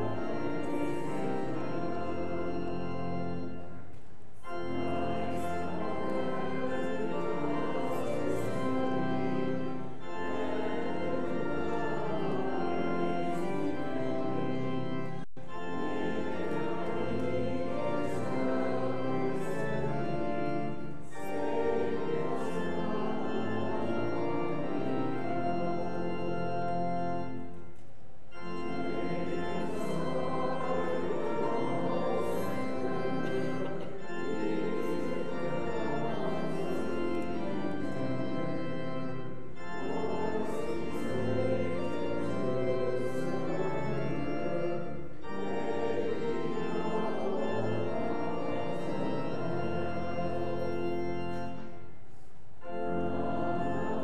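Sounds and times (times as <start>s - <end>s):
church organ playing a hymn: 0.0s - 54.0s.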